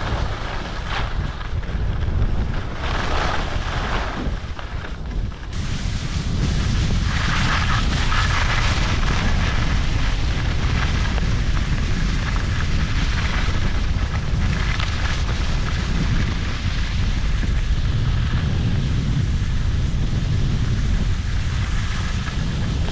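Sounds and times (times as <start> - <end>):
skis scraping over snow: 0.0 - 22.9
wind rumble on microphone: 0.0 - 22.9.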